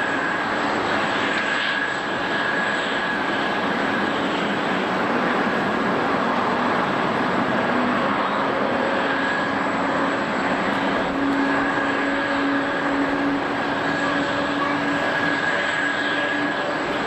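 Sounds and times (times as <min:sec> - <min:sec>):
faint high whine: 0:00.0 - 0:17.0
jet engines rushing: 0:00.0 - 0:17.0.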